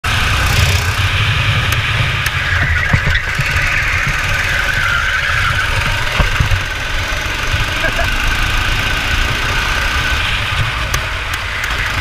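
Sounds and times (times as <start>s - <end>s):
go-kart engine at high revs: 0.0s - 12.0s
heavy low rumble: 0.0s - 12.0s.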